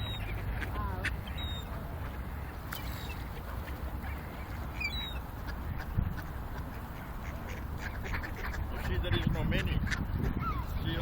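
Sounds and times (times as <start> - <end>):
ducks quacking: 0.1 - 10.6.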